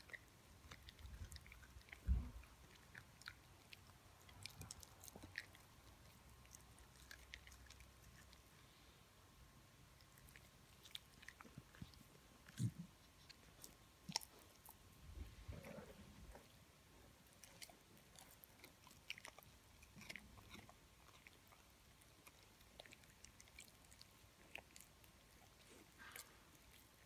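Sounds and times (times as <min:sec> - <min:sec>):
dog gnawing a chew stick: 0:00.0 - 0:08.6, 0:10.0 - 0:16.6, 0:17.2 - 0:27.0.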